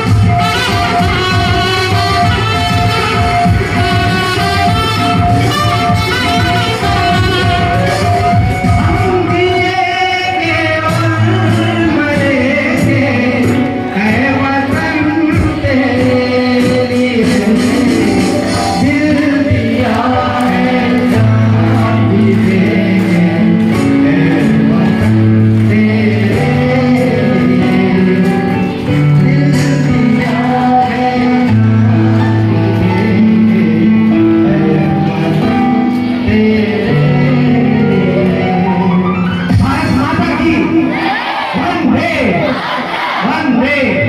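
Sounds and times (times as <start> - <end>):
song with singing and instruments: 0.0 - 44.0.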